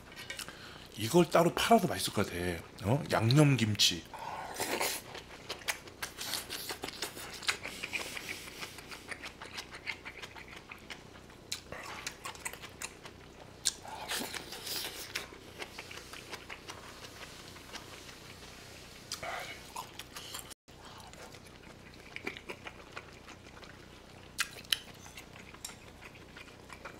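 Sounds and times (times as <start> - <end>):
person chewing food: 0.0 - 0.6, 4.1 - 26.9.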